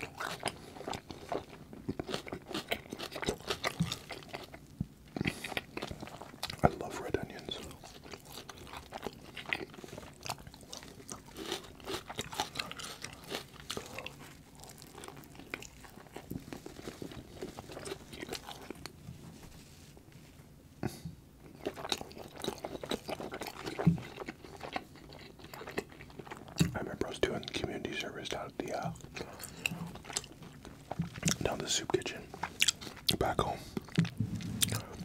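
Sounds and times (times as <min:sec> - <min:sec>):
close chewing with mouth sounds: 0:00.0 - 0:20.1, 0:20.8 - 0:35.0.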